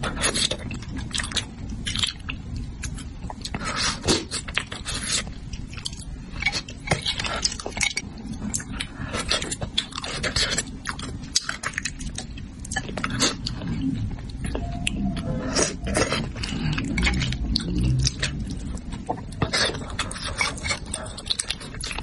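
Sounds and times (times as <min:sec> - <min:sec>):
wet chewing and smacking: 0:00.0 - 0:22.0.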